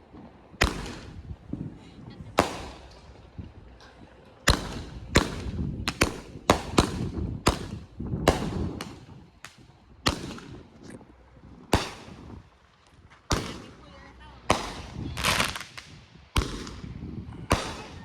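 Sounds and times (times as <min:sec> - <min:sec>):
fireworks bangs with echo: 0:00.1 - 0:03.4, 0:04.5 - 0:10.7, 0:11.7 - 0:12.5, 0:13.3 - 0:18.0.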